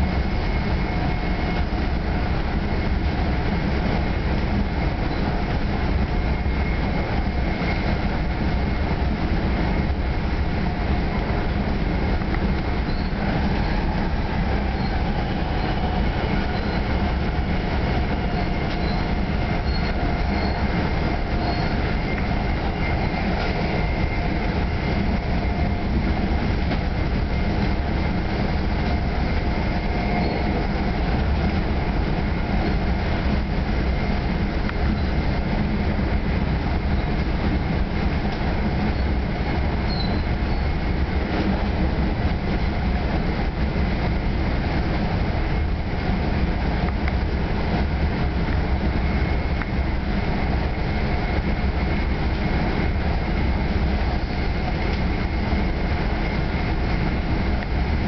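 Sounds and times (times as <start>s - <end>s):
train car rumbling: 0.0s - 58.0s.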